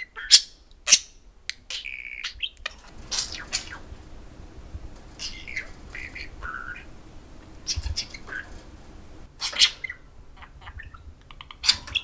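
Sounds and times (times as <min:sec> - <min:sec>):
budgerigars chirping: 0:00.0 - 0:04.0, 0:05.2 - 0:07.0, 0:07.6 - 0:12.0.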